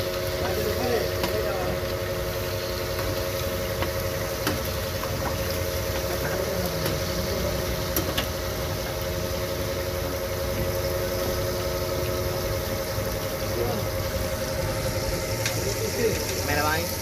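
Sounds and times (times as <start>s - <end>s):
food sizzling in hot oil: 0.0s - 17.0s
steady engine-like hum: 0.0s - 17.0s.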